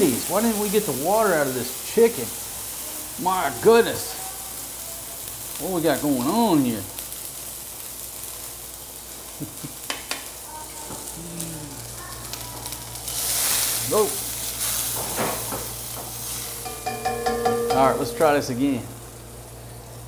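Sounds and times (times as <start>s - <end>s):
chicken sizzling in a skillet: 0.0s - 20.0s.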